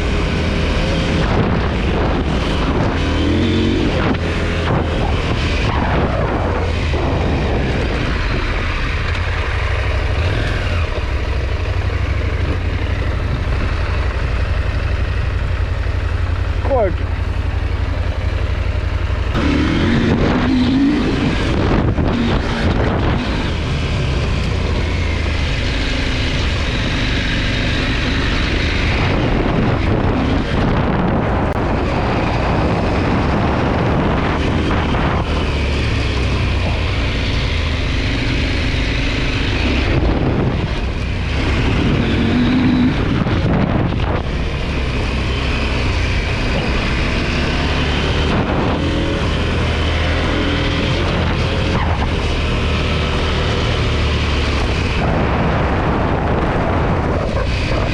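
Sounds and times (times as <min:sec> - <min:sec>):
motorcycle engine running: 0:00.0 - 0:57.9
road noise: 0:00.0 - 0:57.9
wind noise: 0:00.0 - 0:57.9.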